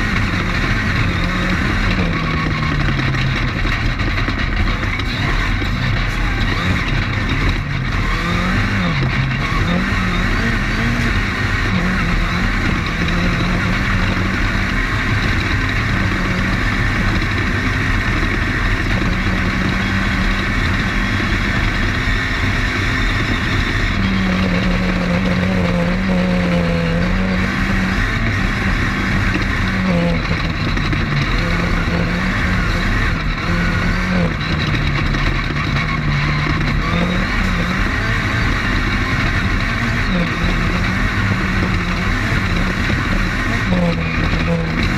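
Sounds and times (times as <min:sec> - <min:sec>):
race car engine revving: 0:00.0 - 0:44.9
rattle and road noise: 0:00.0 - 0:44.9.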